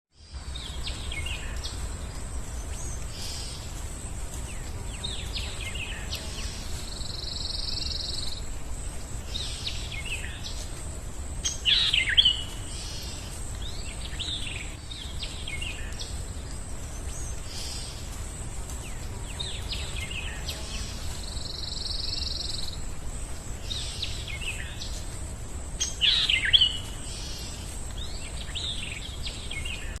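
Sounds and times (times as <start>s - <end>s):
birds chirping and calling: 0.4s - 22.9s, 23.6s - 30.0s.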